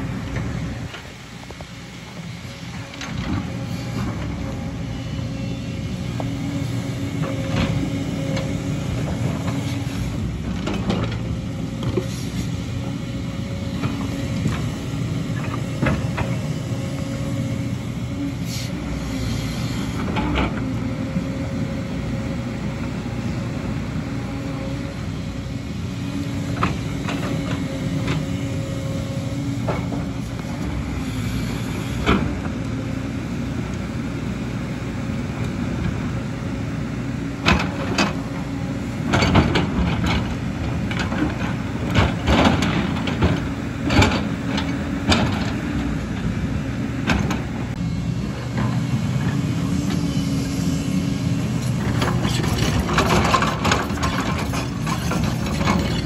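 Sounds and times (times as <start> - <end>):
excavator diesel engine running: 0.0 - 56.0
hydraulics working: 0.0 - 56.0.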